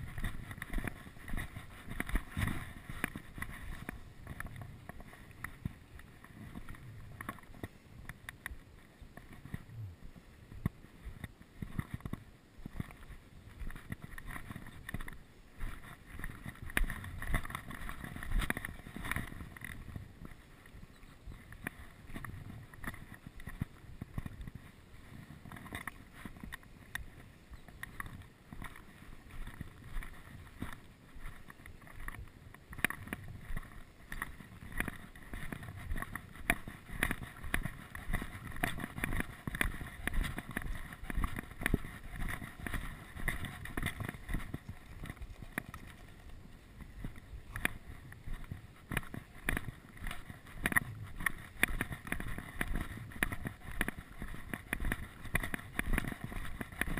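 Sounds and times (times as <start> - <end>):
footsteps on gravel: 8.4 - 56.9.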